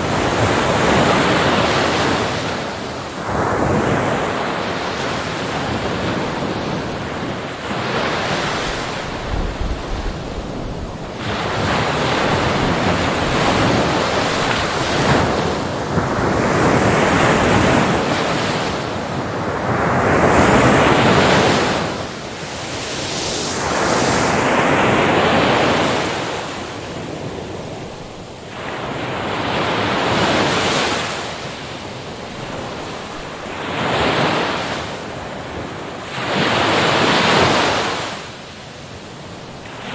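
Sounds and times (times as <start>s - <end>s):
waves breaking on beach: 0.0s - 39.9s
wind on microphone: 0.0s - 39.9s.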